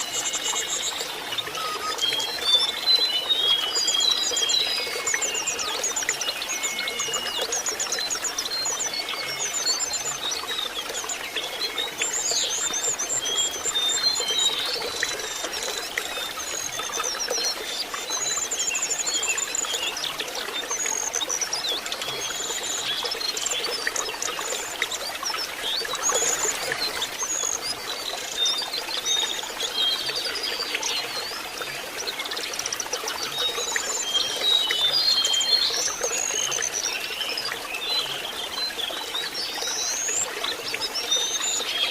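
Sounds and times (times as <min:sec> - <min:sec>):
bird song trills and whistles: 0:00.0 - 0:41.9
water trickling: 0:00.0 - 0:41.9.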